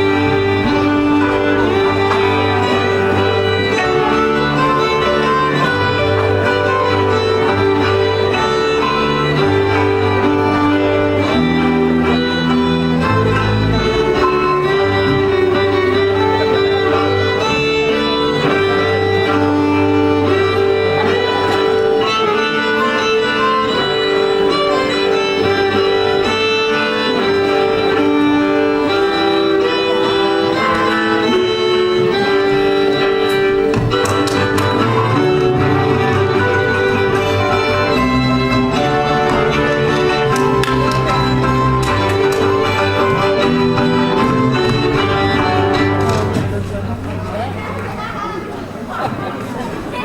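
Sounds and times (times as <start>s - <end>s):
violins: 0.0s - 50.0s.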